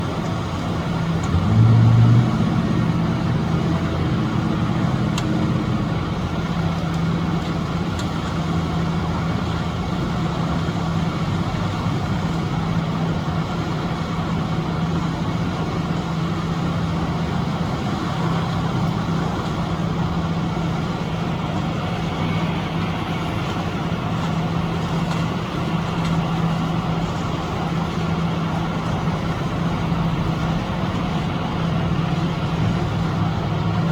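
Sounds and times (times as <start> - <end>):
construction machinery engine humming: 0.0 - 33.9.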